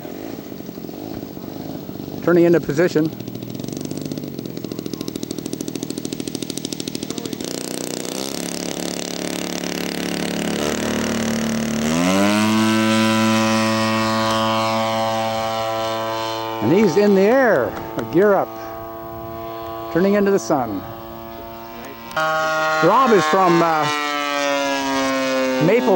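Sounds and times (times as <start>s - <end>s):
model airplane engine: 0.0s - 25.9s.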